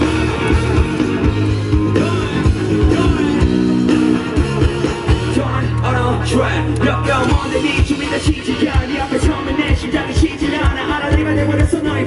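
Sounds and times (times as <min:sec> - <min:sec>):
bass guitar: 0:00.0 - 0:12.0
drum beats: 0:00.0 - 0:12.0
electric guitar: 0:00.0 - 0:12.0.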